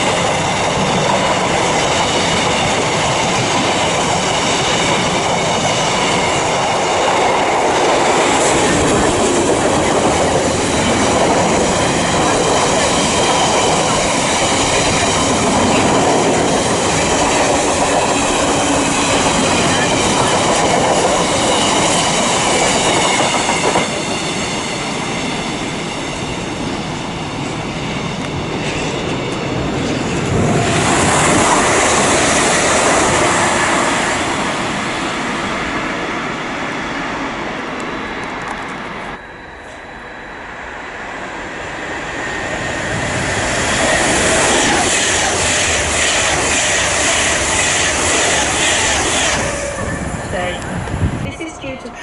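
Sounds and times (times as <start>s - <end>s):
trains running through station: 0.0s - 52.0s.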